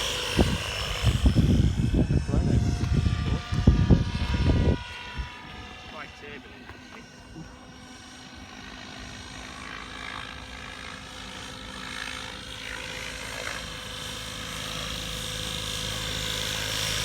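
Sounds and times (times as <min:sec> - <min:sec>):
electric motor high whine: 0:00.0 - 0:17.0
helicopter rotor hum: 0:00.0 - 0:17.0.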